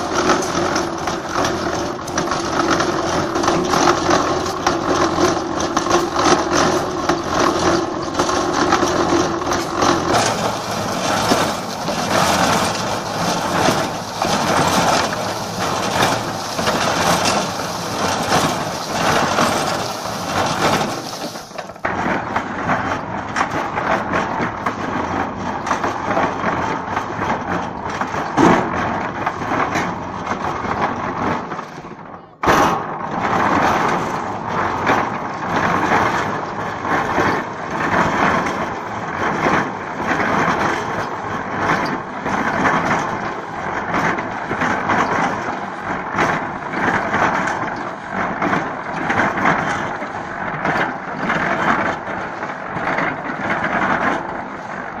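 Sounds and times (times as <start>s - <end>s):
concrete mixer churning concrete: 0.0s - 55.0s.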